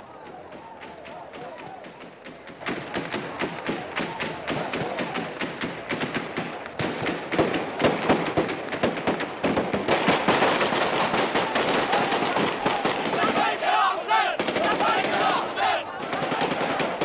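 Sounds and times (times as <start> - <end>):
rapid automatic gunfire: 1.2 - 17.0.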